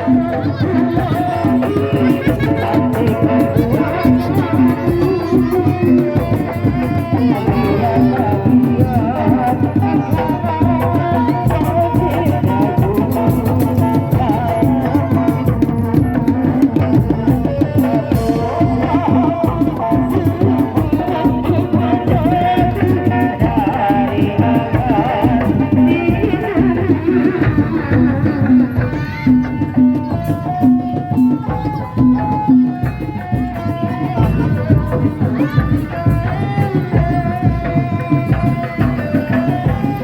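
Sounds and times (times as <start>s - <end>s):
fast hand-drumming: 0.0s - 40.0s.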